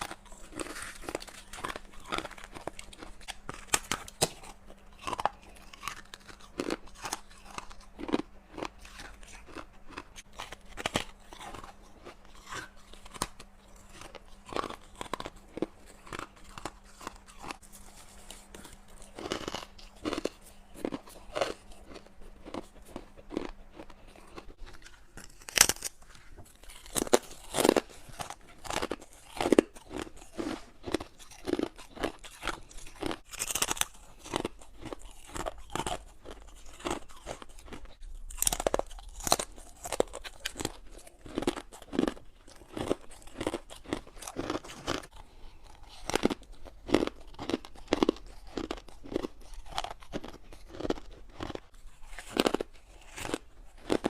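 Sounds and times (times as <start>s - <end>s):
person chewing ice cubes: 0.0s - 54.0s.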